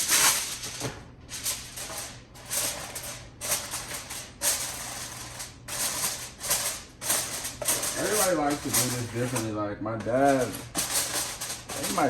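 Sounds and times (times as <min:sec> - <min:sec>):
aluminium foil crinkling: 0:00.0 - 0:09.4, 0:10.1 - 0:12.0.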